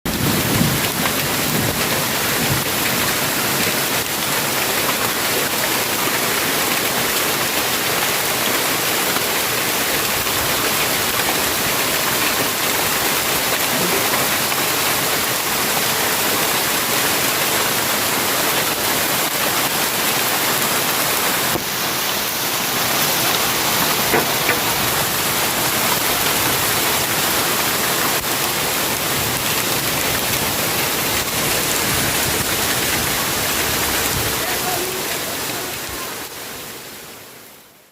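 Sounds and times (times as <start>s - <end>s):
hail and rain falling: 0.1s - 36.9s.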